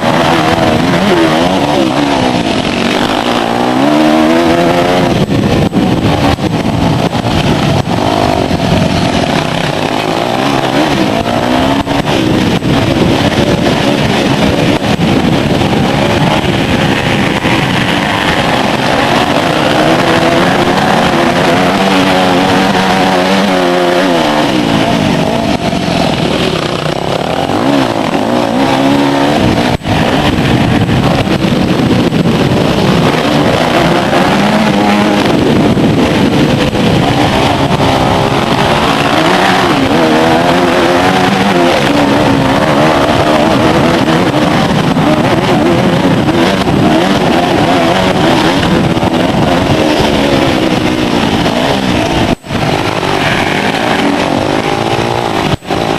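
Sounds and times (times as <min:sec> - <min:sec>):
motorcycle engines revving: 0:00.0 - 0:55.9
steady rushing noise: 0:00.0 - 0:55.9.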